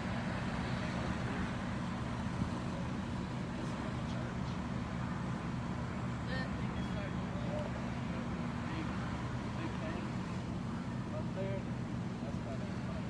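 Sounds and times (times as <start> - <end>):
diesel engines idling: 0.0 - 13.0.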